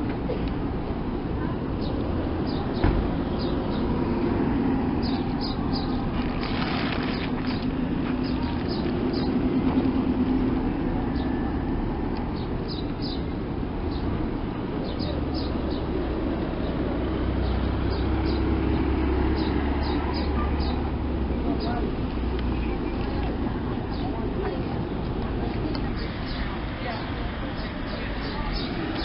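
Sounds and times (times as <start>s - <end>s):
low traffic rumble: 0.0s - 29.0s
small birds chirping: 1.7s - 11.5s, 12.2s - 29.0s.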